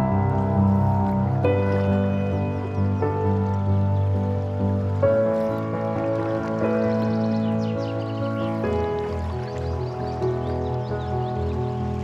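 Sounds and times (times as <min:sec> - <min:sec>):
soft new-age instrumental music: 0:00.0 - 0:12.0.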